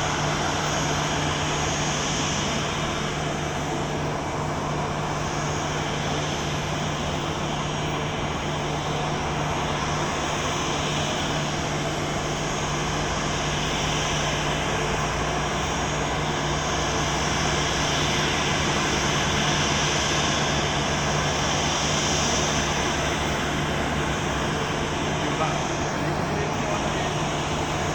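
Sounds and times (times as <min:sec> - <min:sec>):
jet engines running: 0:00.0 - 0:27.9.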